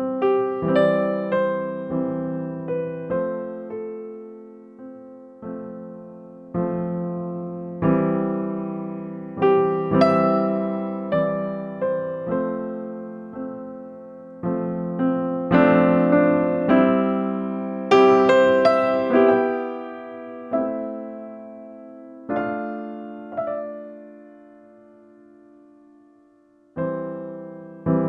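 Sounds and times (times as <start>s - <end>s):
gentle electric piano: 0.0s - 28.0s.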